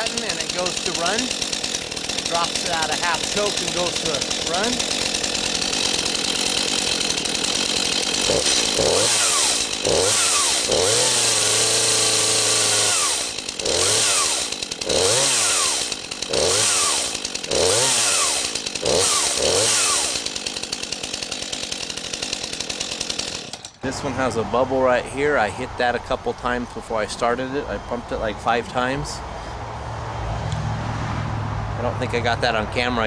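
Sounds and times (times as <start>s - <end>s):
chainsaw engine revving and idling: 0.0s - 29.2s, 30.3s - 33.0s.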